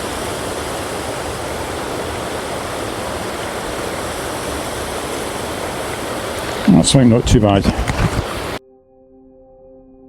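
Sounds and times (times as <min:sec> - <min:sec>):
waterfall rushing over rocks: 0:00.0 - 0:08.6.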